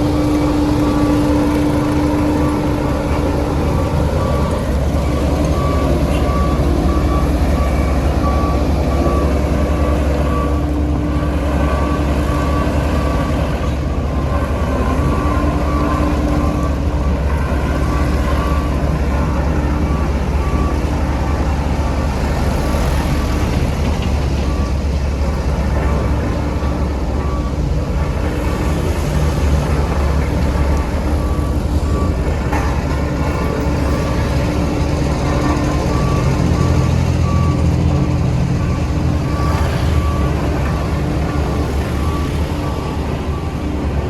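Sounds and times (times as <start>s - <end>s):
diesel engine of heavy machinery: 0.0s - 44.0s
reverse alarm beeping: 0.0s - 44.0s.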